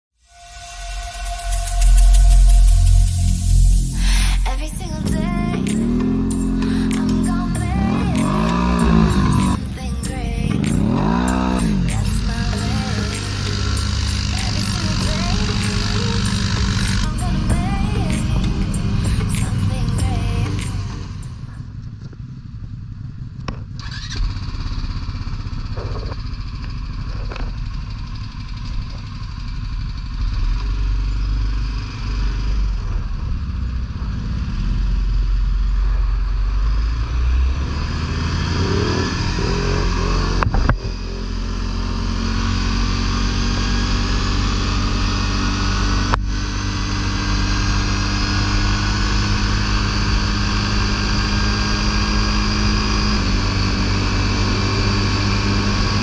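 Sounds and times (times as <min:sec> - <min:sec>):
atv engine rumbling: 0:01.7 - 0:56.0.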